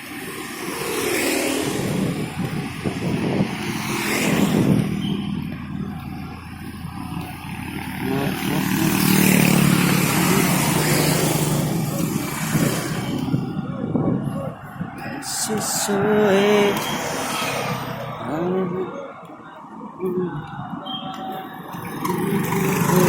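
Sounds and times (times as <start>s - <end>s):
engine hum and tyre noise: 0.0s - 23.0s
motor vehicles passing: 0.0s - 23.0s.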